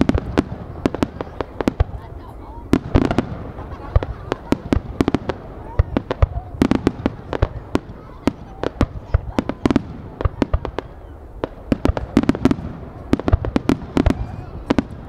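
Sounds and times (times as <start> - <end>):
fireworks bangs with echo: 0.0 - 15.0.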